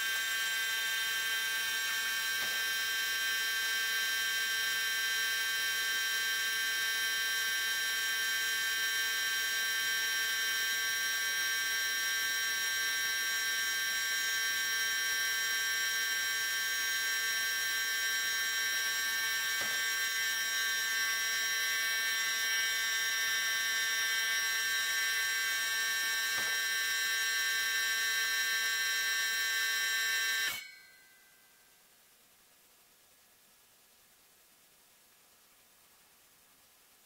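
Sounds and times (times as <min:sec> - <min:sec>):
high-pitched electric buzz: 0:00.0 - 0:31.7.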